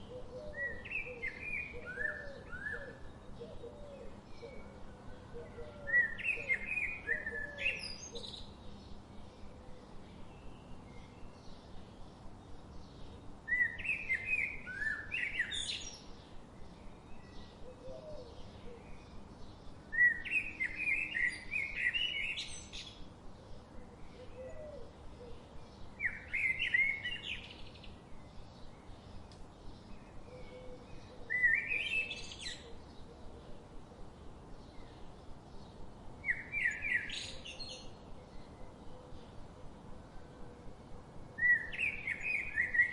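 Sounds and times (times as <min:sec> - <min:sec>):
songbird singing: 0:00.0 - 0:42.9.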